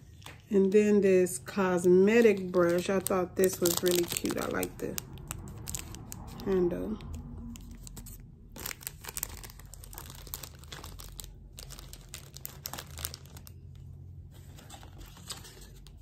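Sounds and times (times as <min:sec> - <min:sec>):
plastic and paper crinkling: 0:01.7 - 0:16.0.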